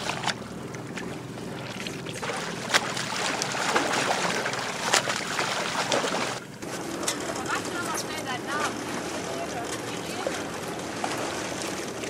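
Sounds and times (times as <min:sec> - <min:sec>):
boat engine hum: 0:00.0 - 0:12.0
water splashing and sloshing: 0:00.0 - 0:12.0.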